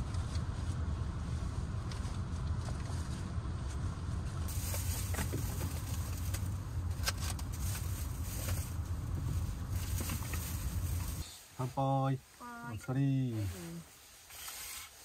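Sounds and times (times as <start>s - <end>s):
car engine low rumble: 0.0s - 14.2s.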